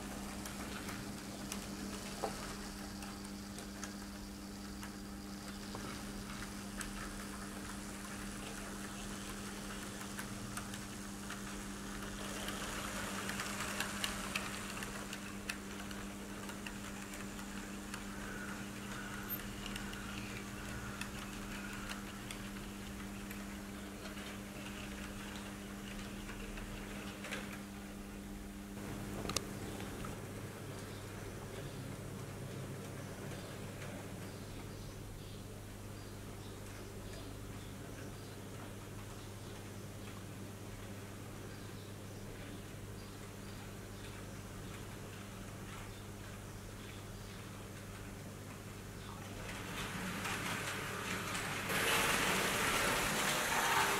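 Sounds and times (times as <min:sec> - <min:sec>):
model train electric hum: 0:00.0 - 0:34.7, 0:44.1 - 0:53.9.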